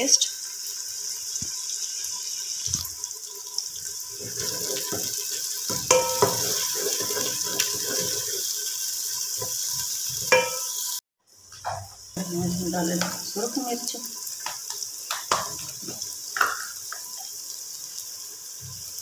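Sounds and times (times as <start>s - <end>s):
food sizzling in pot: 0.0s - 19.0s.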